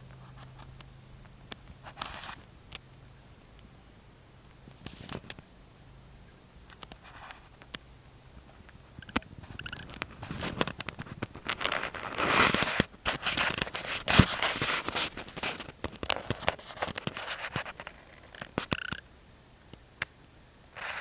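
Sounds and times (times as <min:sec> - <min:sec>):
rustling and crackling: 0:00.0 - 0:03.8, 0:04.4 - 0:05.5, 0:06.6 - 0:19.0, 0:20.7 - 0:21.0.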